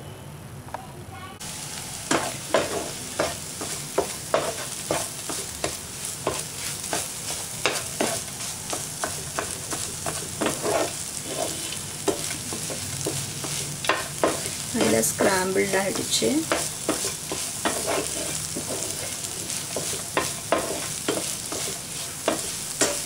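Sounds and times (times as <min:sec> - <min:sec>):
frying sizzle: 0:01.1 - 0:23.0
spatula scraping frying pan: 0:02.1 - 0:23.0.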